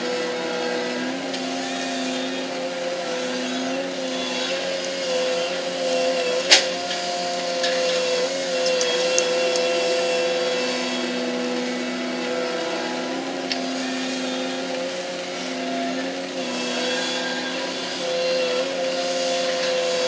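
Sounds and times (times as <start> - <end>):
whining drone of crane machinery: 0.0 - 20.0.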